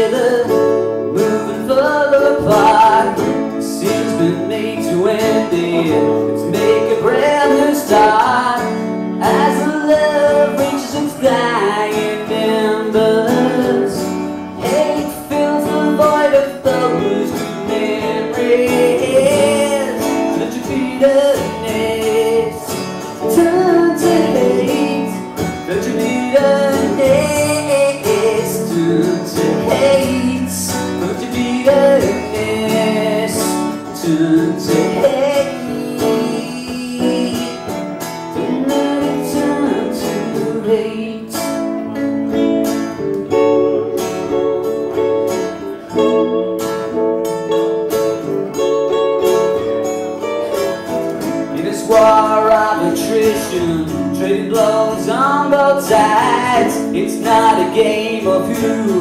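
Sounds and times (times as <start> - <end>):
electric guitar lead melody: 0.0 - 59.0
strummed acoustic guitar chords: 0.0 - 59.0.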